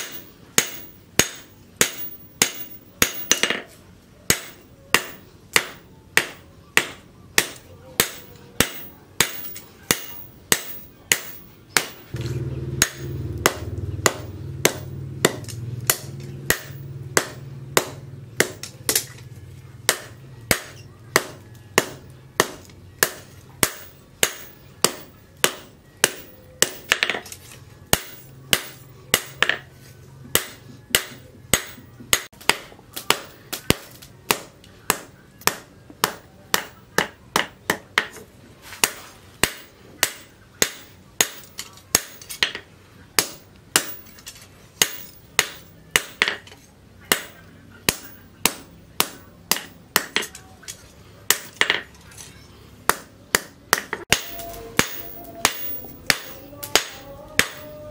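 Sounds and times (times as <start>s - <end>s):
hammer striking steel on anvil: 0.0s - 3.7s, 4.3s - 19.2s, 19.8s - 29.7s, 30.3s - 38.2s, 38.8s - 50.5s, 51.3s - 51.9s, 52.9s - 57.9s.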